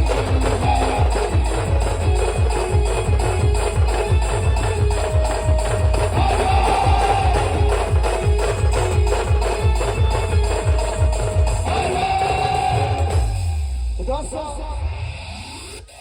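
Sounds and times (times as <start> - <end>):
loud instrumental band music: 0.0 - 14.2
heavy bass drum beat: 0.0 - 14.3.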